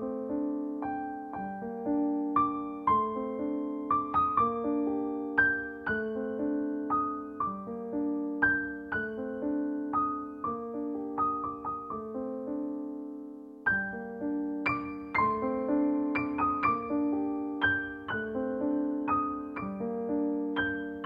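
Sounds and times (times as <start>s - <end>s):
slow solo piano: 0.0s - 21.0s.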